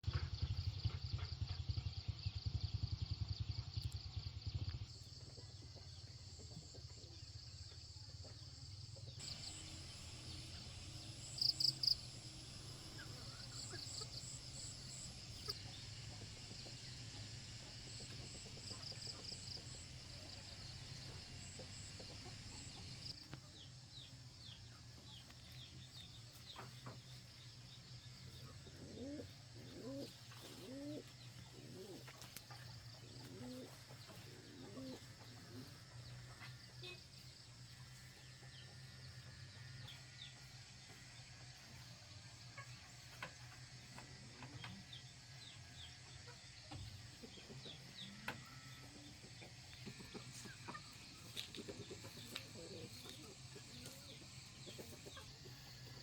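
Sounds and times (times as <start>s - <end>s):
small birds chirping: 0.3s - 56.0s
chickens clucking: 5.0s - 56.0s.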